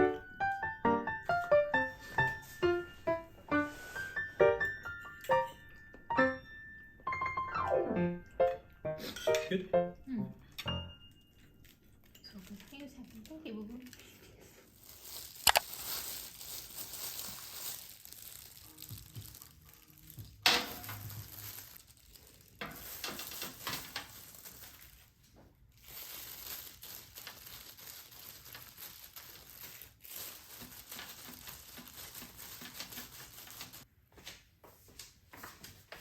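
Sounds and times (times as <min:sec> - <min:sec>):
rustling and crinkling: 0:01.2 - 0:05.6, 0:11.3 - 0:36.0.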